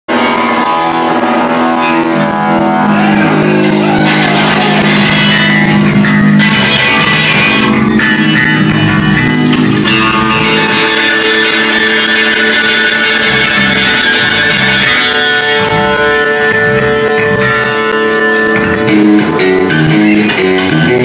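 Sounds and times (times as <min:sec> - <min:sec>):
guitar chords: 0:00.1 - 0:21.0
rock band playing: 0:00.1 - 0:21.0.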